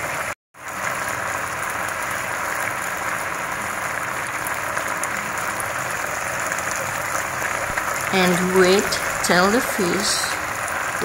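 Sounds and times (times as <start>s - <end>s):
sauce bubbling and sizzling in a pan: 0.0s - 11.0s.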